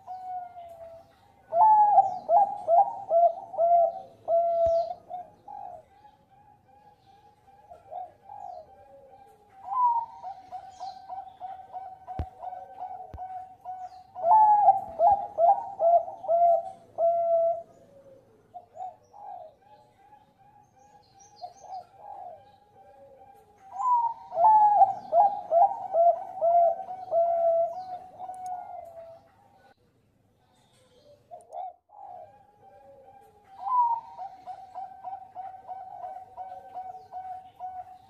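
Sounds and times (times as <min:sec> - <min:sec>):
dove cooing: 0:00.0 - 0:29.7, 0:30.7 - 0:38.0.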